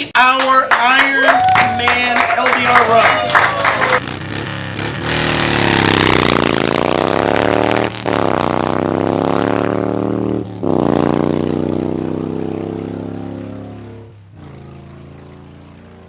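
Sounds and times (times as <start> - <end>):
motorcycle engine accelerating: 2.8 - 16.0.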